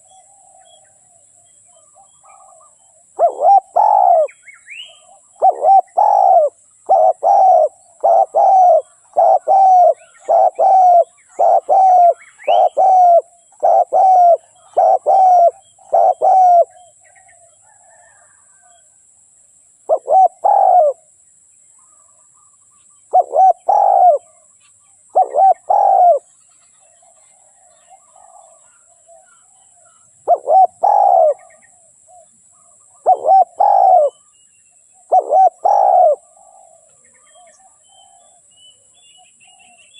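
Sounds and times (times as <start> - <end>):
dove cooing: 0.0 - 1.2, 1.8 - 18.8, 19.9 - 21.1, 23.1 - 24.4, 25.1 - 26.3, 26.9 - 34.3, 35.0 - 38.5.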